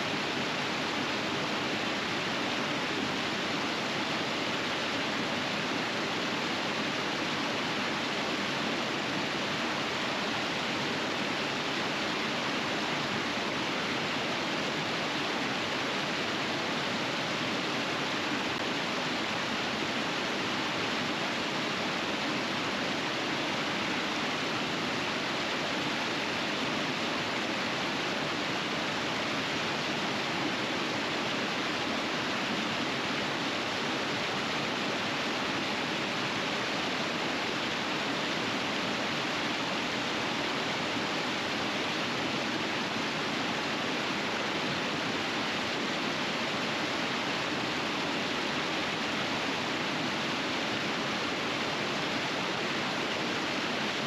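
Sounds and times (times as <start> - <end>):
river rushing over rapids: 0.0 - 54.0.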